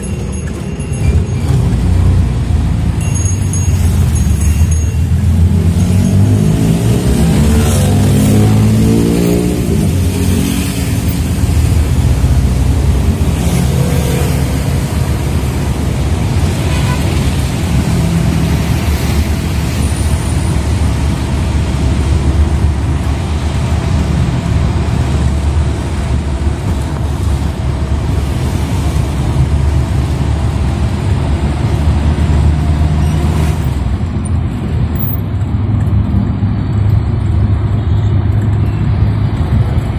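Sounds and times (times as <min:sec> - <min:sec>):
minibus engine accelerating: 0:00.0 - 0:39.9
road noise inside vehicle: 0:00.0 - 0:39.9.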